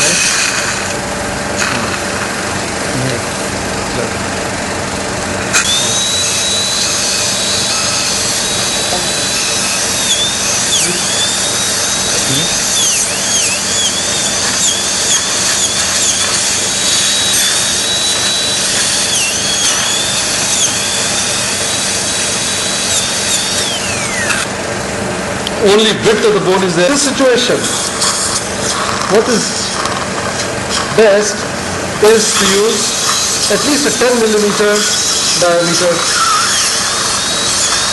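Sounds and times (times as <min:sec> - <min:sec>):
dental drill whining through bone: 0:00.0 - 0:24.6, 0:25.6 - 0:37.9.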